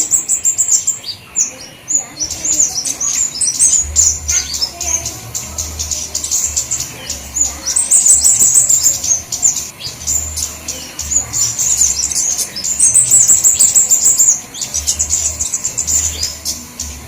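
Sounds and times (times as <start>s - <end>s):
high-pitched bird chirps: 0.0s - 17.0s.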